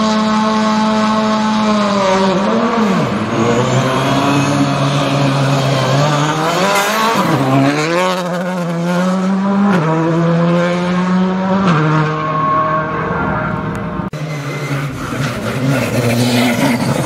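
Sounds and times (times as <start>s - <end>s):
rally car engine passing at speed: 0.0s - 17.0s.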